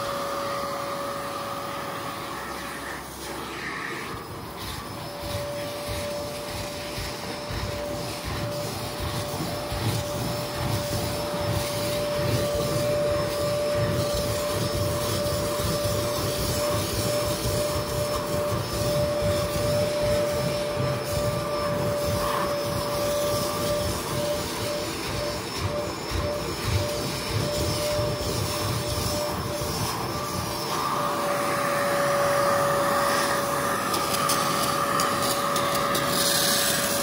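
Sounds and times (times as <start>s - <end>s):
carpet vacuum whining: 0.0s - 37.0s.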